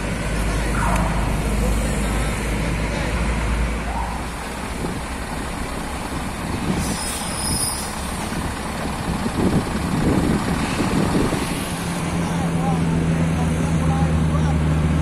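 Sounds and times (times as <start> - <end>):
road traffic: 0.0 - 15.0
truck diesel engine running: 0.0 - 15.0.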